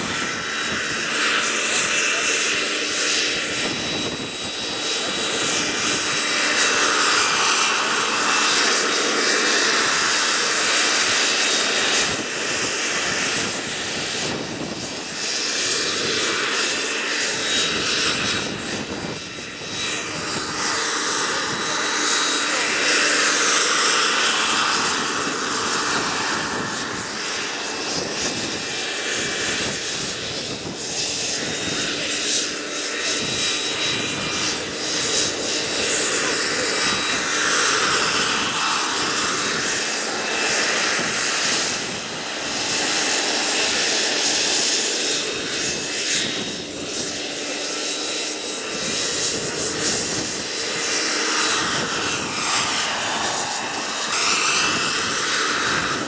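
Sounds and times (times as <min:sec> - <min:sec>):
turbine engine whine: 0:00.0 - 0:56.0.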